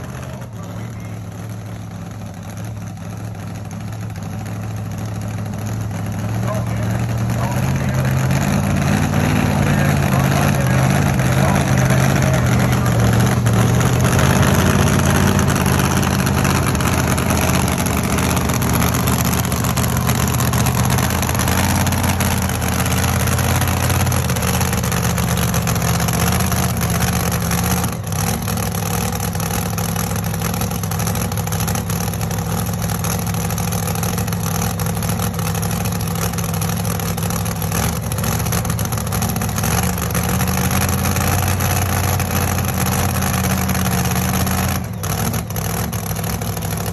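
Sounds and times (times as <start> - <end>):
truck engine idling loudly: 0.0 - 46.9.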